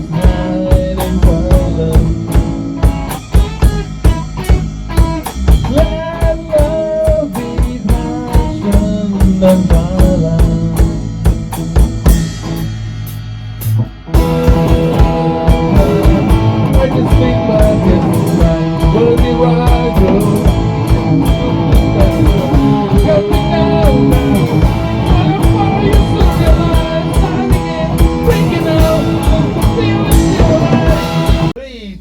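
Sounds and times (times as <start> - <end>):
electric guitar lead: 0.0 - 31.6
bass guitar: 0.0 - 32.0
drum kit: 0.0 - 32.0.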